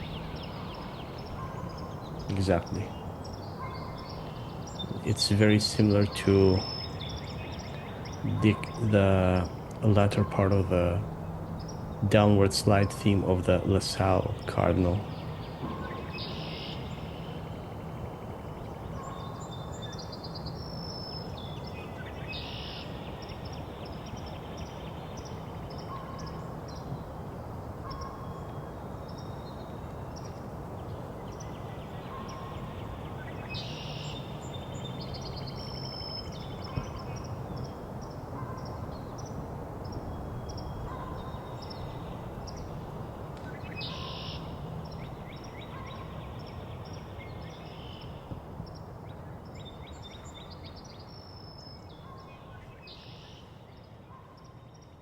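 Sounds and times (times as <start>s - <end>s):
birds singing: 0.0s - 55.0s.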